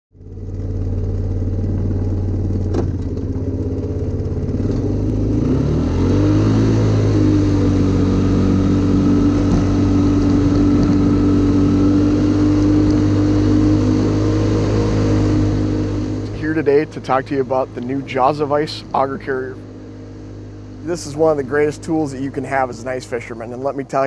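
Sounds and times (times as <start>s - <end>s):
quad bike engine running: 0.2s - 24.0s.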